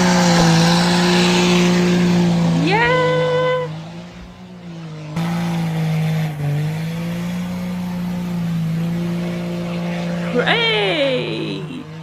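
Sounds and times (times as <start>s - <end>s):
truck engine running at raised revs: 0.0s - 12.0s.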